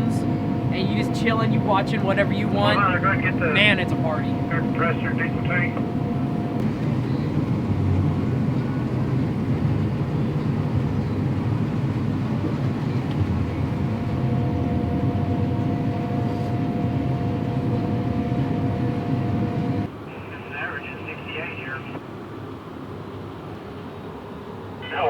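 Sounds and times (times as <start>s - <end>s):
farm machinery rumble: 0.0s - 20.4s
faint steady whine: 0.0s - 25.0s.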